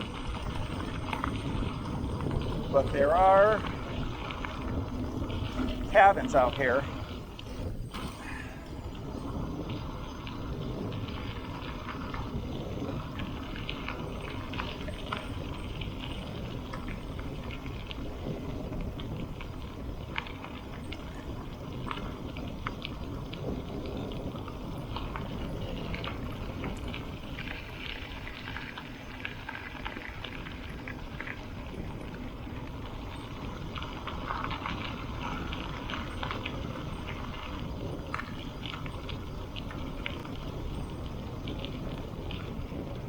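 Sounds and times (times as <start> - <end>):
bicycle tyres rolling on gravel: 0.0 - 43.0
small stones crackling under tyres: 0.0 - 43.0.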